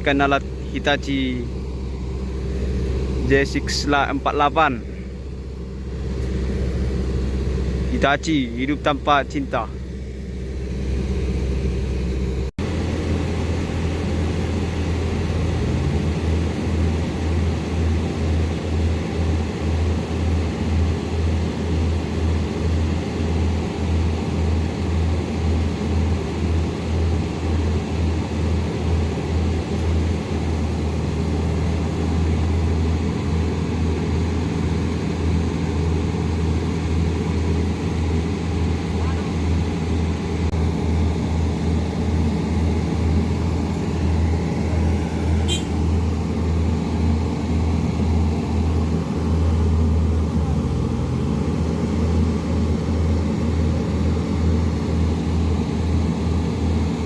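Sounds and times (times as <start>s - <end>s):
excavator diesel engine under load: 0.0s - 57.0s.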